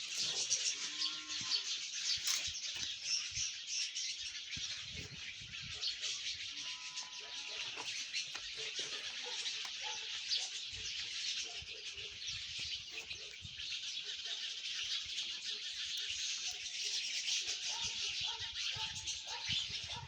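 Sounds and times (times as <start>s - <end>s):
small birds chirping chorus: 0.0s - 20.0s.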